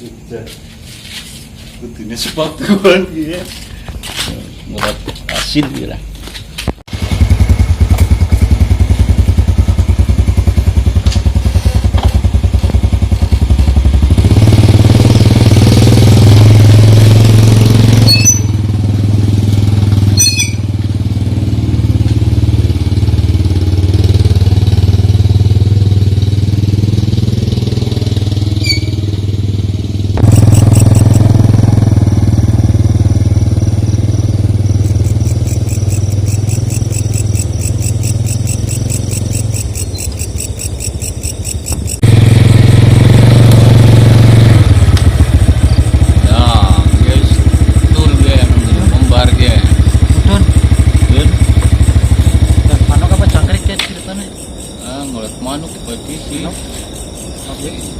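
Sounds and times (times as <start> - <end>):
engine droning: 4.7 - 57.9.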